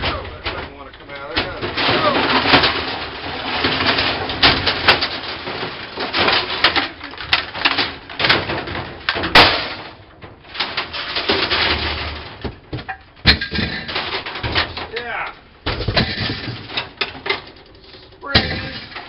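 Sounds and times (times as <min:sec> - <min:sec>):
metal parts clattering and scraping: 0:00.0 - 0:19.0.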